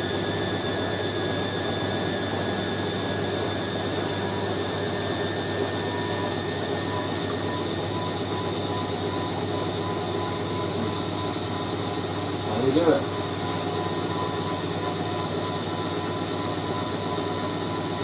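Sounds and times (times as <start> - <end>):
washing machine whirring: 0.0 - 18.0.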